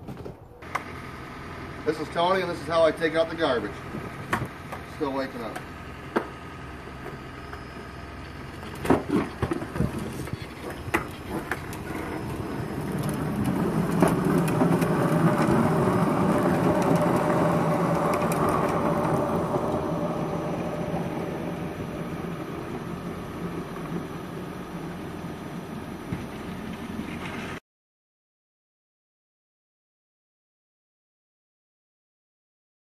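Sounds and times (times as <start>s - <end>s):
wheels rumbling on asphalt: 0.0s - 27.6s.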